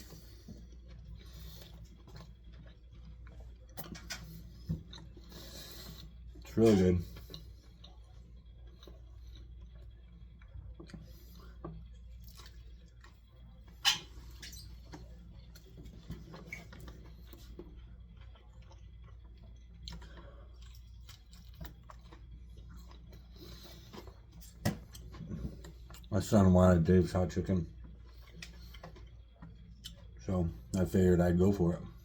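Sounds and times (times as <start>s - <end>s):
person chewing food: 0.0s - 26.4s, 27.7s - 30.9s.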